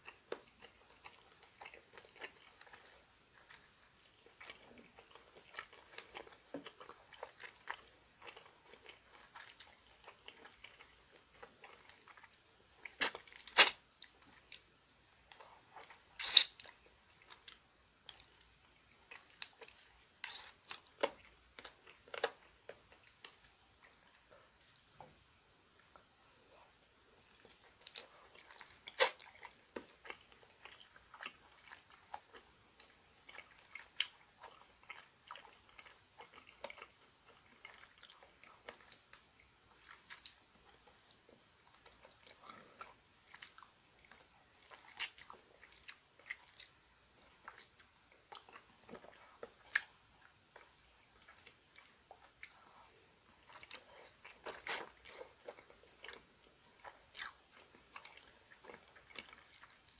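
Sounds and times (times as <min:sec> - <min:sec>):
person chewing: 0:00.0 - 0:14.7, 0:15.3 - 0:25.0, 0:27.2 - 0:59.9.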